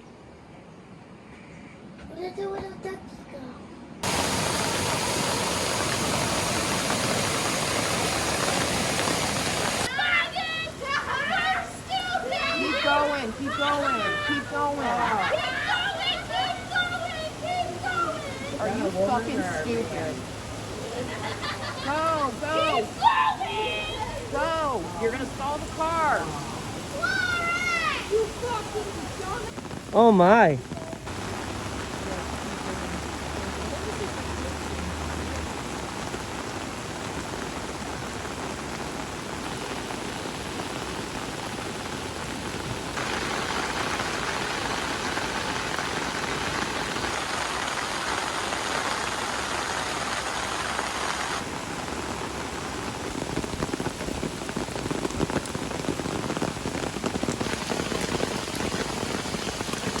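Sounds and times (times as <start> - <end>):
water rushing and splashing: 4.0 - 60.0.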